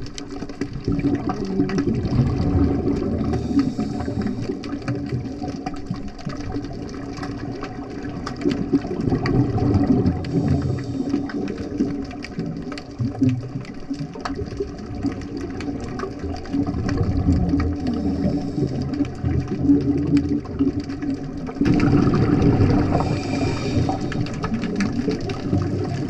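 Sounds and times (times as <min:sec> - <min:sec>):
crackling clicks: 0:00.0 - 0:26.0
muffled underwater rumble: 0:00.0 - 0:26.0.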